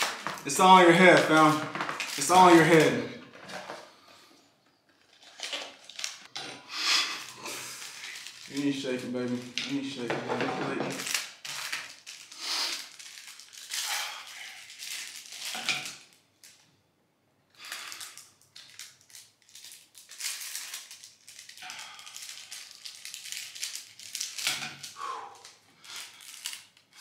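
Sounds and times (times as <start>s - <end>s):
chip packets crinkling and tearing: 0.0s - 3.8s, 5.0s - 6.3s, 7.1s - 16.6s, 17.6s - 27.0s.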